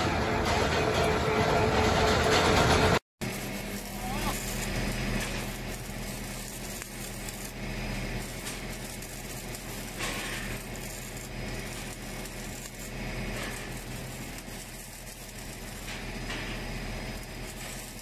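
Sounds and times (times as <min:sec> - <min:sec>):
steady machine hum: 0:00.0 - 0:18.0
hiss: 0:03.2 - 0:18.0.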